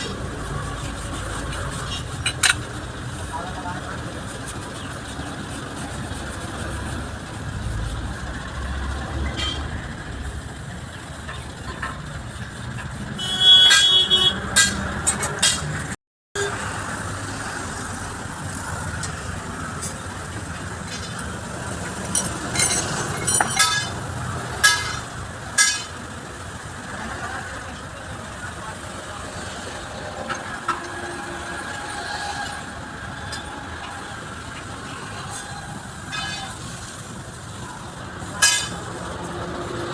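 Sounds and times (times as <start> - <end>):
low rumble of road vehicles: 0.0 - 39.9.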